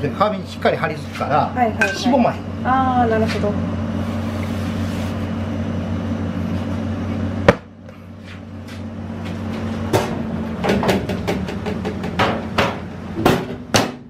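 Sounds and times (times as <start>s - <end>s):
kitchen machinery humming: 0.0s - 14.0s.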